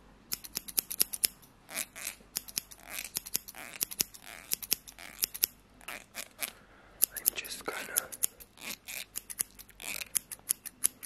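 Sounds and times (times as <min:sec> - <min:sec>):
scissors snipping: 0:00.3 - 0:11.0.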